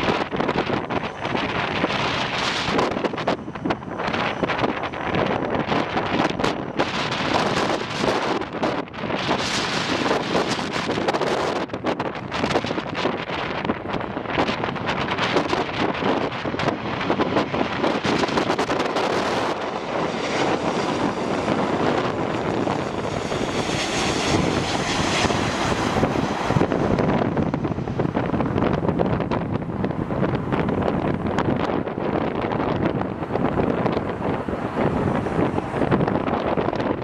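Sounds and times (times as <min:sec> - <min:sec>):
jet airliner engine passing: 0:00.0 - 0:37.0
wind buffeting microphone: 0:00.0 - 0:37.0.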